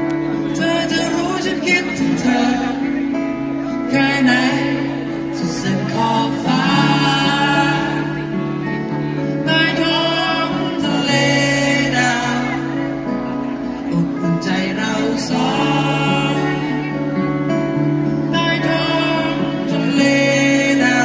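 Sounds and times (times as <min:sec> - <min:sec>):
acoustic guitars: 0:00.0 - 0:21.0
person singing: 0:00.0 - 0:21.0.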